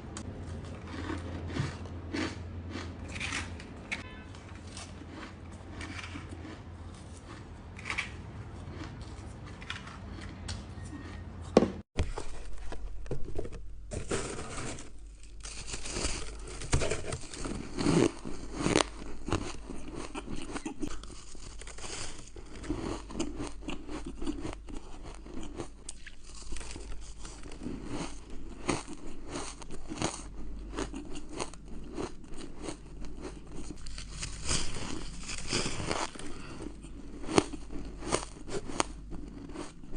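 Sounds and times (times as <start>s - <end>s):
person chewing ice: 0.2s - 11.5s, 13.9s - 39.9s.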